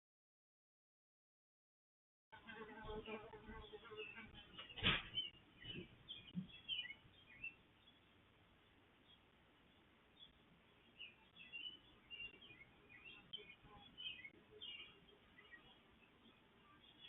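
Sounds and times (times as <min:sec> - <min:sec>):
low outdoor background: 0:02.3 - 0:17.0
faint birds chirping: 0:02.4 - 0:17.0.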